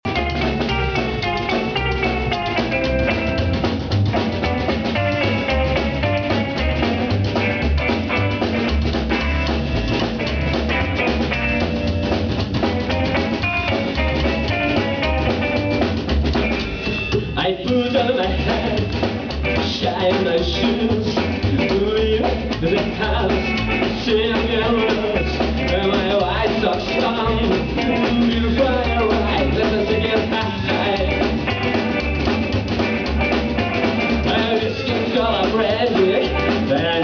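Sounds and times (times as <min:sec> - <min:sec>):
instrumental rock music: 0:00.0 - 0:37.0.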